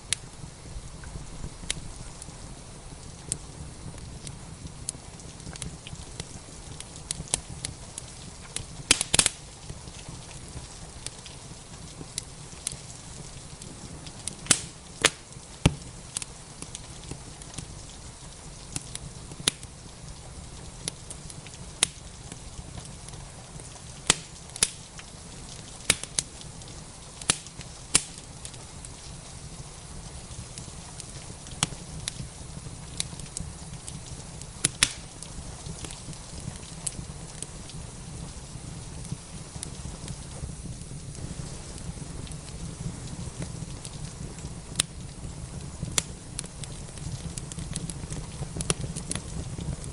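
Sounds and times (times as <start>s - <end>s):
fire crackling: 0.0s - 49.9s.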